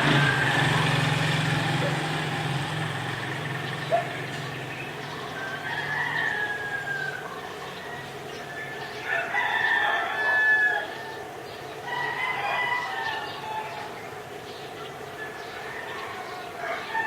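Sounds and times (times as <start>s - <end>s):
roosters crowing: 0.0s - 17.0s.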